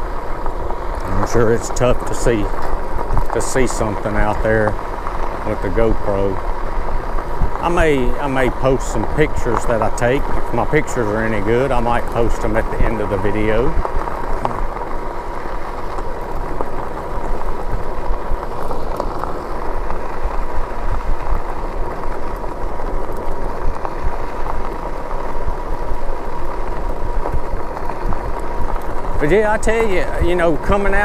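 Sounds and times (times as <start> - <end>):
thin steady whine: 0.0 - 31.0
tyres rolling on road: 0.0 - 31.0
wind rumble on microphone: 0.0 - 31.0.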